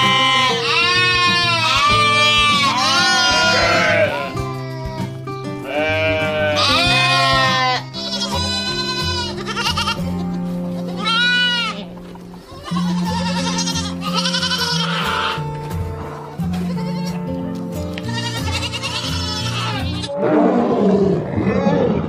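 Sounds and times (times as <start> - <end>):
lambs and goat kids bleating: 0.0 - 20.1
background music with held notes: 0.0 - 20.3.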